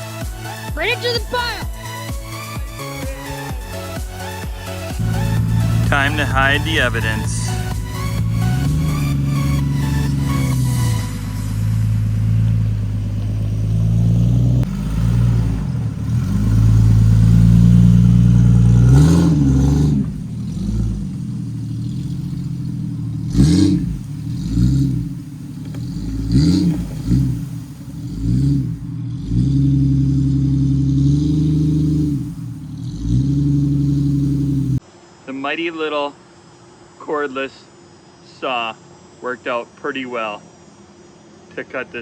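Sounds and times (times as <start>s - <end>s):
vehicle engine revving: 0.0s - 34.8s.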